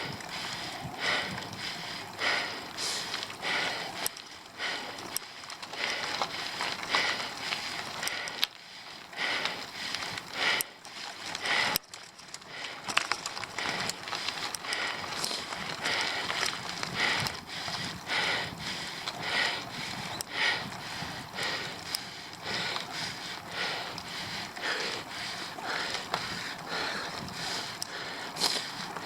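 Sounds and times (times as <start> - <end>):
bicycle clicks: 0.0 - 29.0
cyclist breathing hard: 0.0 - 29.0.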